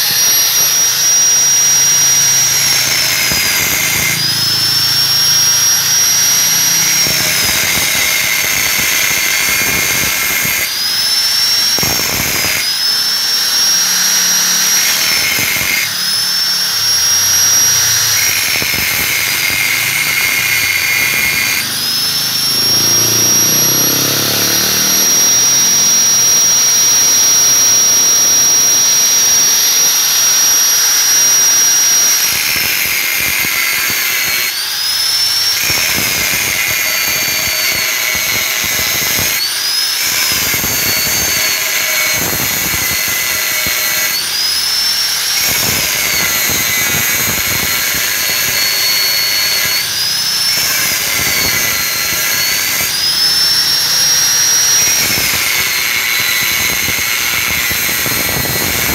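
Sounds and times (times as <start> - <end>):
angle grinder whining: 0.0 - 58.9
grinder cutting metal: 0.0 - 58.9.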